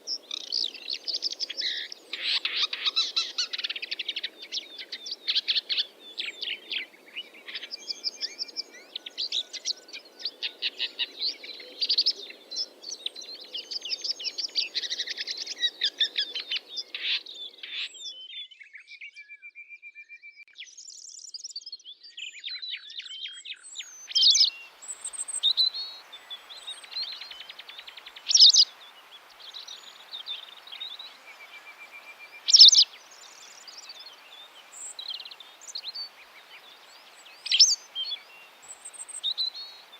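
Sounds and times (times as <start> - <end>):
faint background hiss: 0.0 - 18.1, 23.6 - 39.9
songbirds chirping and singing: 0.0 - 39.9.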